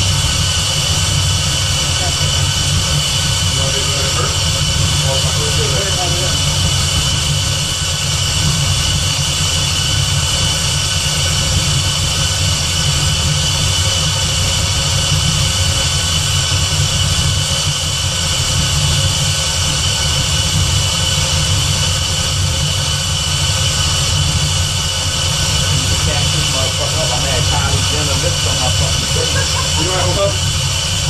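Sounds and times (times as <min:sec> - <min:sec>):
car engine idling: 0:00.0 - 0:31.0
supercharger whine: 0:00.0 - 0:31.0.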